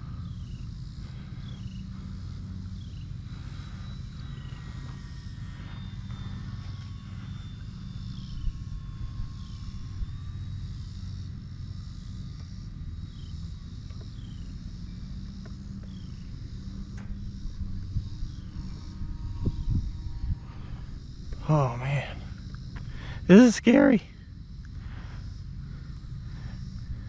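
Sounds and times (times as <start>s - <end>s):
model plane motor whining: 0.0s - 27.0s.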